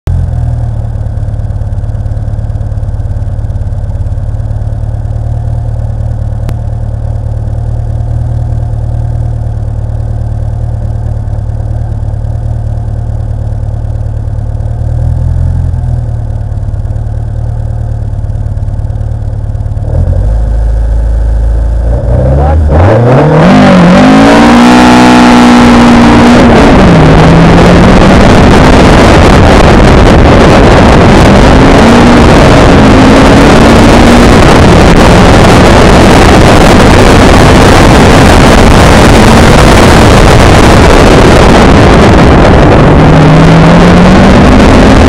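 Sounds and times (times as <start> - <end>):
car engine idling and revving: 0.0 - 45.0.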